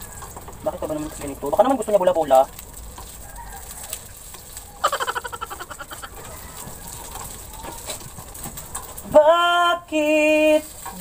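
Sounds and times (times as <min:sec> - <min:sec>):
fish frying in oil: 0:00.0 - 0:11.0.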